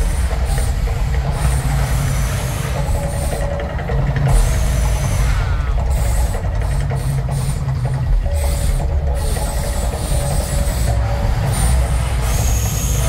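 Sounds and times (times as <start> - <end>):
low rumble with hiss of flames: 0.0 - 12.7.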